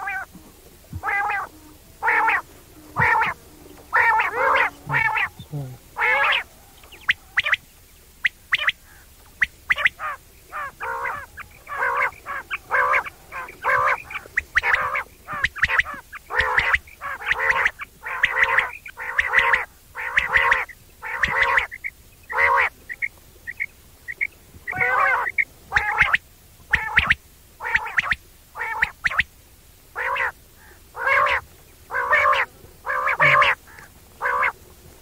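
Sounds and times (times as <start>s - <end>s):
quail calling: 0.0s - 29.3s, 29.9s - 34.6s.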